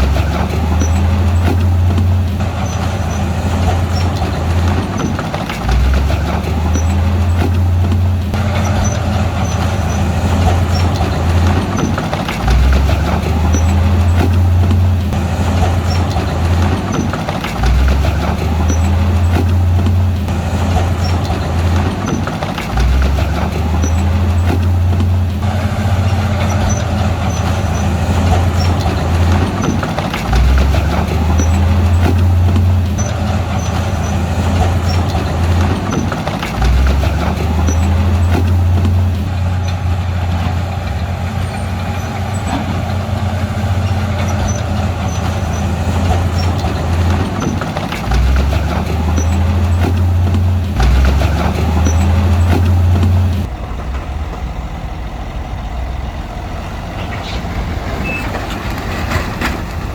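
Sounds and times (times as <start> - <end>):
bulldozer diesel engine under load: 0.0 - 59.9
steady clatter: 0.0 - 59.9.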